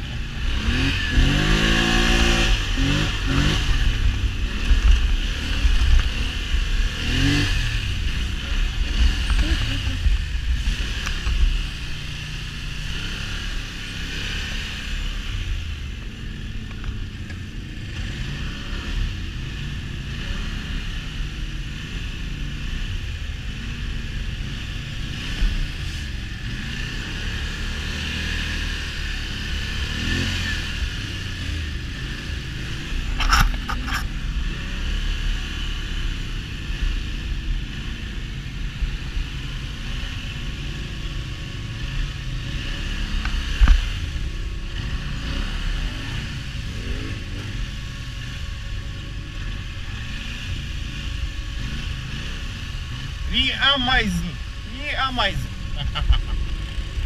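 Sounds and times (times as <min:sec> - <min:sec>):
quad engine revving: 0:00.0 - 0:16.4, 0:17.7 - 0:57.0.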